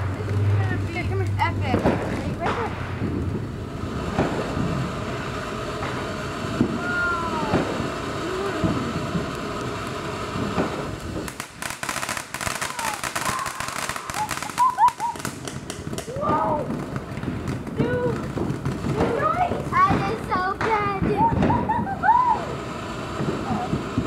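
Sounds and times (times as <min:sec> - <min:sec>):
firework crackling pops: 0:00.0 - 0:24.0
firework sparks hissing: 0:00.0 - 0:24.0.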